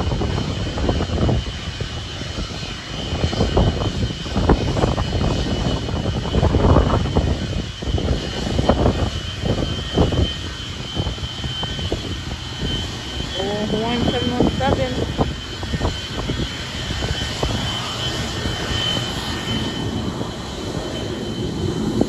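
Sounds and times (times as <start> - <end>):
jet engines whining: 0.0 - 22.0
wind buffeting microphone: 0.0 - 22.0.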